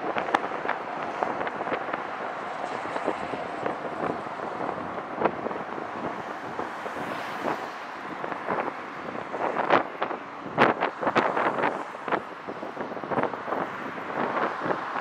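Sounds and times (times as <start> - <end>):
road traffic rushing past: 0.0 - 15.0.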